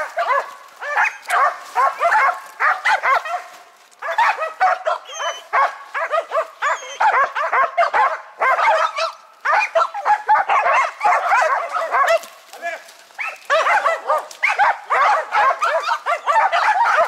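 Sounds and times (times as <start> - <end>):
dogs barking high-pitched yips: 0.0 - 12.4, 13.2 - 17.0.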